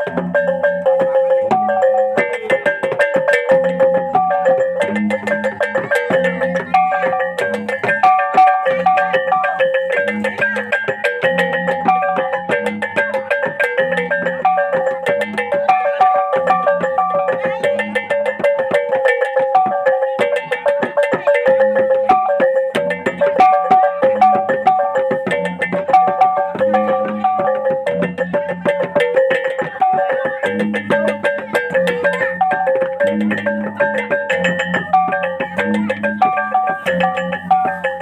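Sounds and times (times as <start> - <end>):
metal mallet melody: 0.0 - 38.0.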